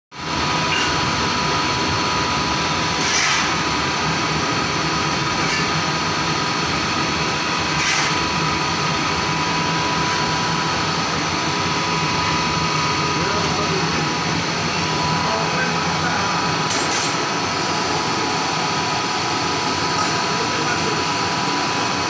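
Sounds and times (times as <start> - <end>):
high whine of fans: 0.1 - 22.0
boiler plant mechanical drone: 0.2 - 22.0.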